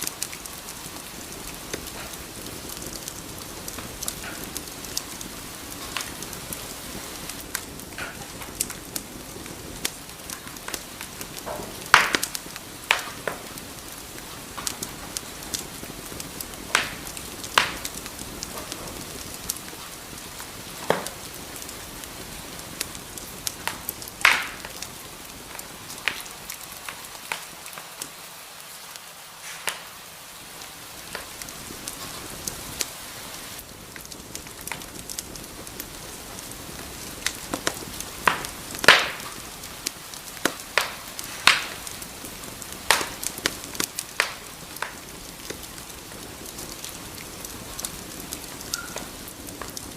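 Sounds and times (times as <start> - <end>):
fire popping: 0.0 - 49.9
wood fire hissing and crackling: 0.0 - 49.9.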